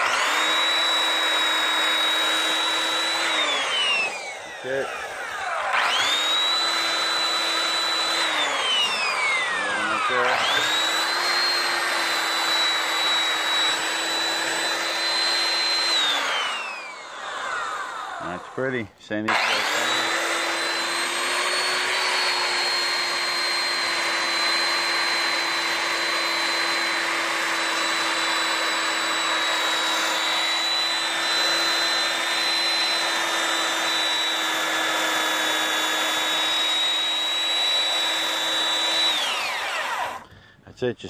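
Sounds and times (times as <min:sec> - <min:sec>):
electric sander whining: 0:00.0 - 0:40.4.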